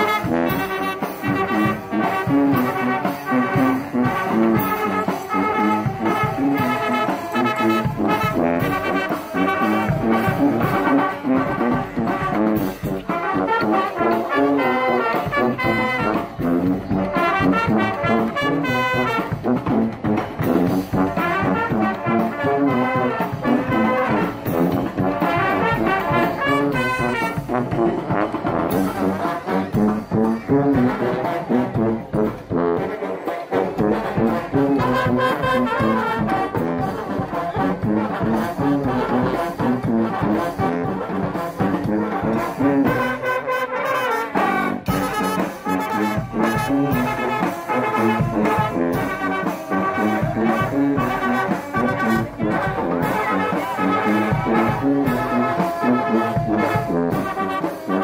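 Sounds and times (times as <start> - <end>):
brass band playing: 0.0 - 58.0
drums keeping a steady beat: 0.0 - 58.0.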